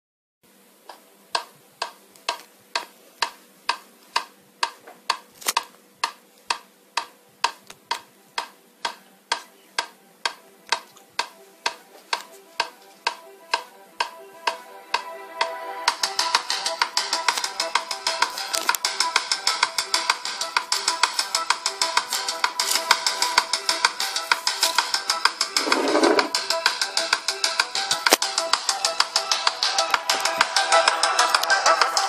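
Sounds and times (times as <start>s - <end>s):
music: 0.8s - 32.0s
clock ticking: 0.9s - 32.0s.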